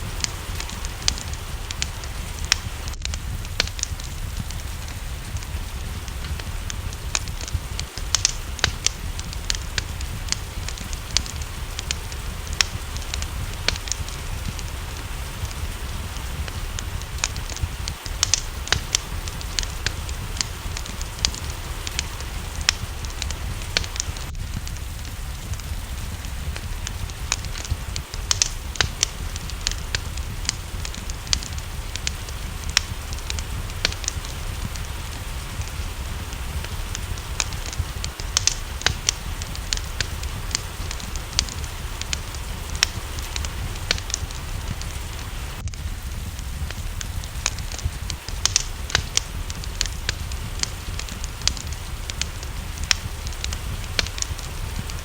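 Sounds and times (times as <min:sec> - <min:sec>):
low rumble: 0:00.0 - 0:55.0
rain hiss: 0:00.0 - 0:55.0
wood fire crackling and popping: 0:00.0 - 0:55.0.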